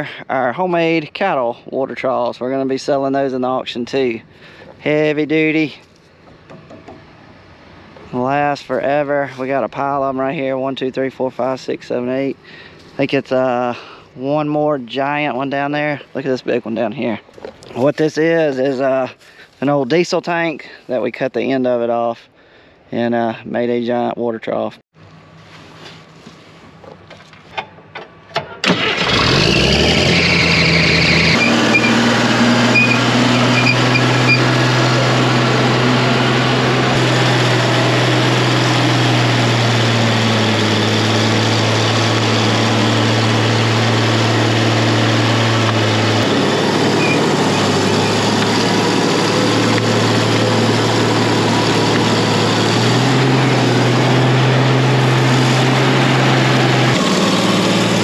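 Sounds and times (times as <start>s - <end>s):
diesel engine starting and running: 0.0s - 19.5s, 25.0s - 58.0s.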